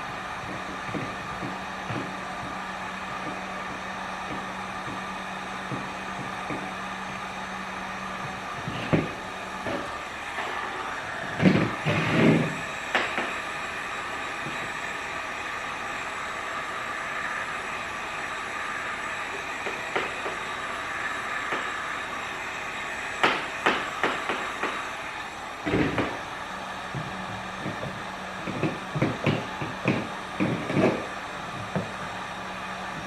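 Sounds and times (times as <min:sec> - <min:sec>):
heat gun blowing: 0:00.0 - 0:33.0.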